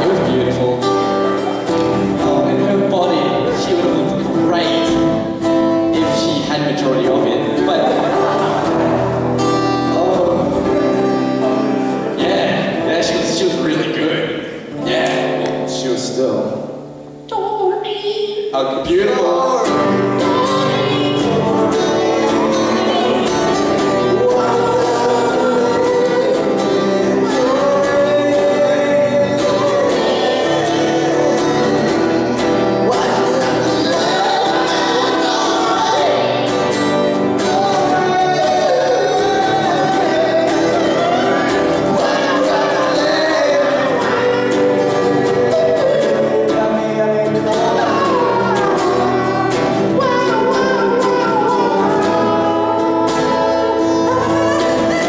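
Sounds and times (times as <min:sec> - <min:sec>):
two voices singing: 0:00.0 - 0:16.6, 0:18.2 - 0:55.0
acoustic guitar strumming: 0:00.0 - 0:55.0.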